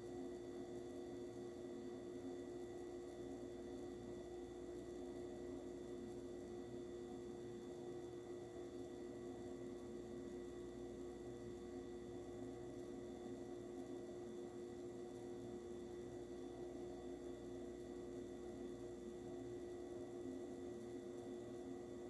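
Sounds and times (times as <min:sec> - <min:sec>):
oven humming: 0:00.0 - 0:22.0.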